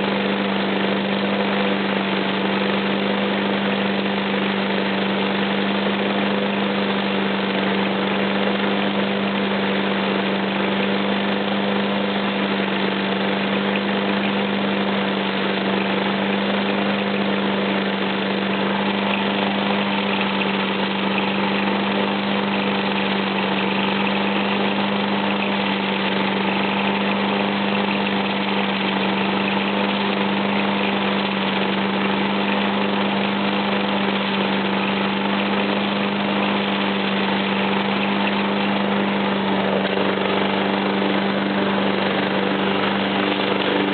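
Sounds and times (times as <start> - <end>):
lawnmower engine running: 0.0 - 43.9.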